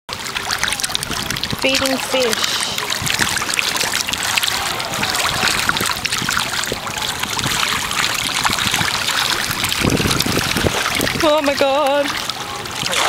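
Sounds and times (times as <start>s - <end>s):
water splashing from fish: 0.1s - 13.0s.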